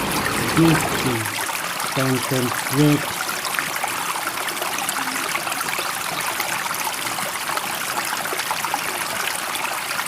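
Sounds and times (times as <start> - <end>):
running water babbling: 0.0 - 10.0.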